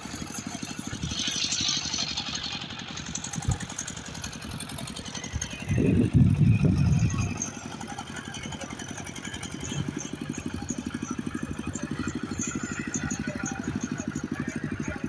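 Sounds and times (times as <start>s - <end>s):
engine running with fast pulsing: 0.0s - 15.0s.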